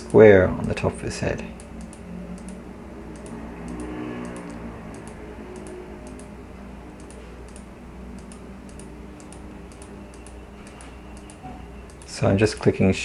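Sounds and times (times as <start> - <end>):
computer mouse clicking: 1.6 - 6.3, 6.9 - 12.7.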